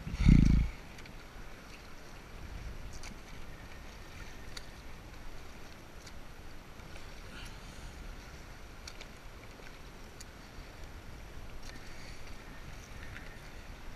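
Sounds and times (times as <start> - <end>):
rushing water: 0.0 - 13.9
wind: 0.0 - 13.9
kayak paddle splashes: 0.7 - 13.9.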